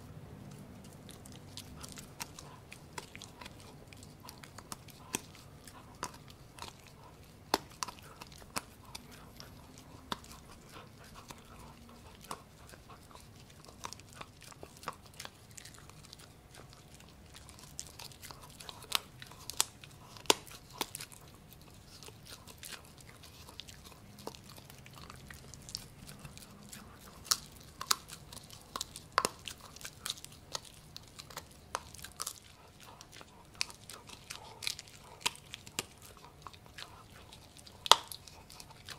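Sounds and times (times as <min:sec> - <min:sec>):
puppy chewing and crunching food: 0:00.0 - 0:38.9.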